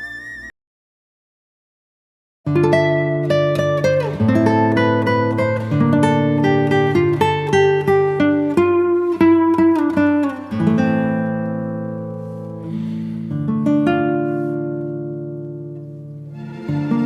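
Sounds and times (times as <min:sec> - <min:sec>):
acoustic guitar music: 0:02.5 - 0:17.0.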